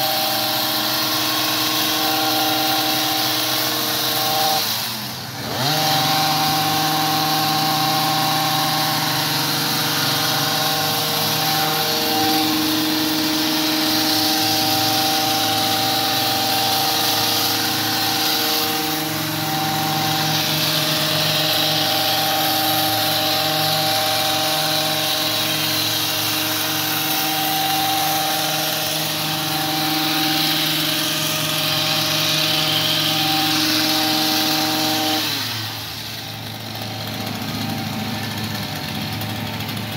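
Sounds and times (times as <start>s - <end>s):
hedge trimmer engine cutting: 0.0s - 39.9s.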